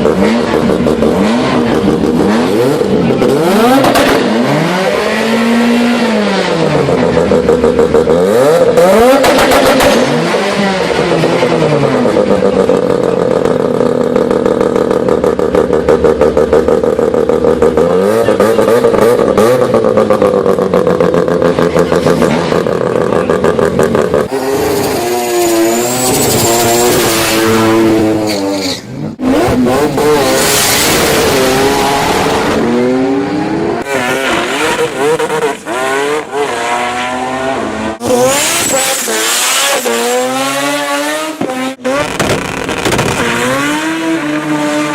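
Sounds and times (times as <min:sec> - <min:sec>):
rotary engine cars revving: 0:00.0 - 0:44.9.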